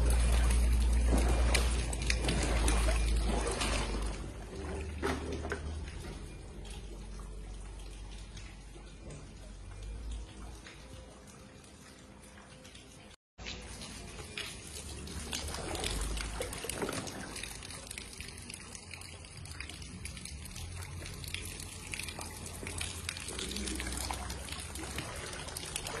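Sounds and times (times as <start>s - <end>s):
floodwater trickling and sloshing: 0.0s - 26.0s
small water splashes: 0.0s - 26.0s.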